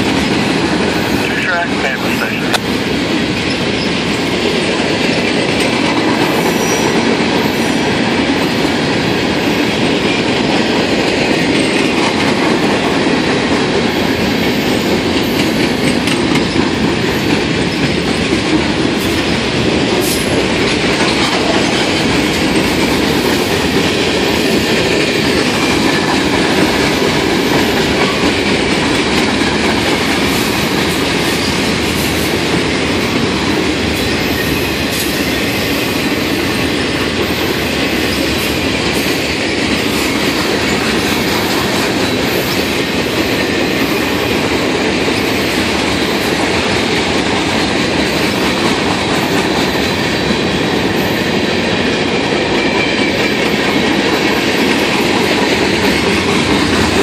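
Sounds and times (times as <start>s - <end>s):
clickety-clack over rail joints: 0.0s - 1.5s, 2.1s - 57.0s
steel wheels rumbling on rail: 0.0s - 57.0s.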